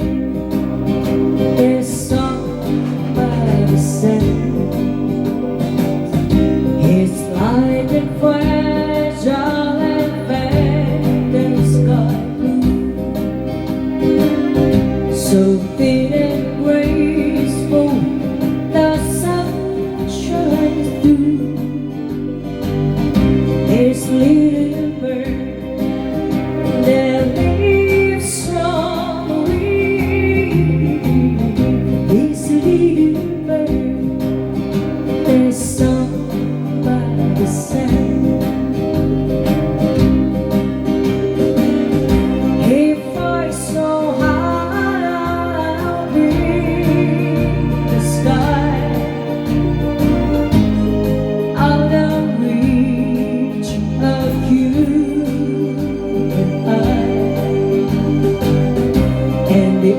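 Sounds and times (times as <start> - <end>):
woman singing: 0.0 - 40.4, 41.3 - 59.9
acoustic guitar: 0.0 - 59.9.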